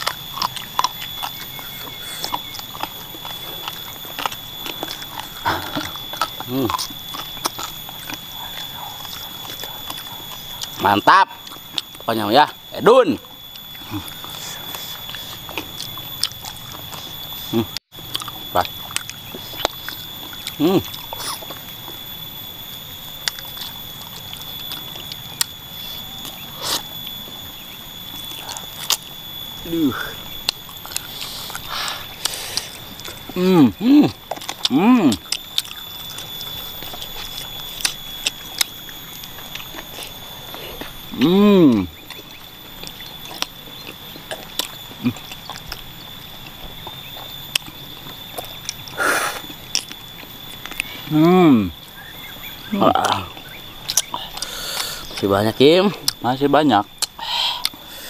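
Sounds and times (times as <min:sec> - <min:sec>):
eating clicks and smacks: 0:00.0 - 0:12.6, 0:13.5 - 0:22.0, 0:22.8 - 0:29.2, 0:30.2 - 0:33.4, 0:34.1 - 0:51.2, 0:51.8 - 0:57.8
steady high whine: 0:00.0 - 0:58.0.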